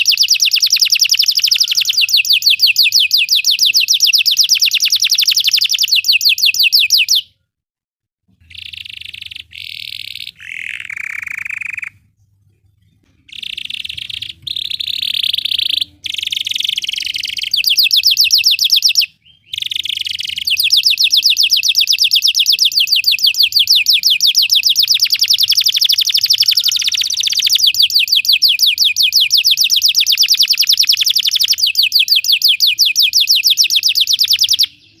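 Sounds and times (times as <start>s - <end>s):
canary singing trills: 0.0s - 7.3s, 8.4s - 35.0s.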